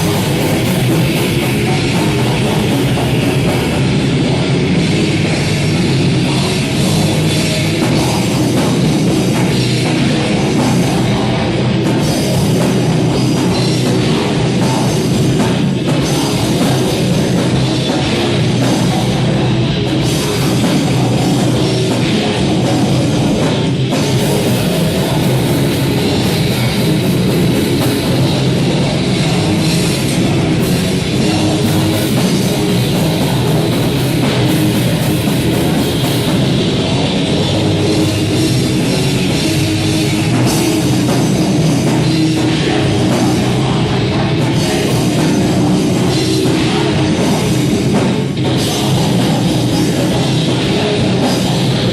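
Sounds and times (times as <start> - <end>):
distorted electric guitars: 0.0 - 51.9
pounding drum kit: 0.0 - 51.9.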